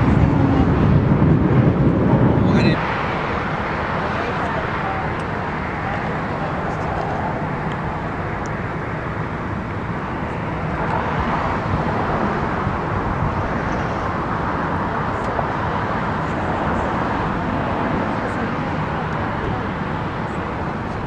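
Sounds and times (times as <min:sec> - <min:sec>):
distant jet aircraft roar: 0:00.0 - 0:21.0
road traffic: 0:00.0 - 0:21.0.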